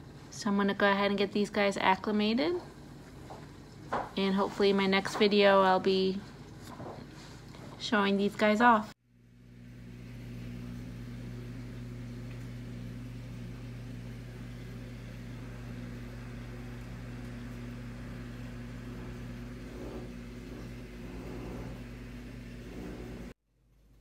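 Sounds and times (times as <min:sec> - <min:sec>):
aquarium equipment hum: 0:00.0 - 0:24.0.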